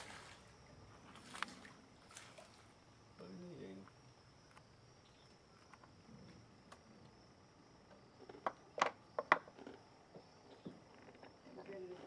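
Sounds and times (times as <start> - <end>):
insects humming: 0.0 - 12.0.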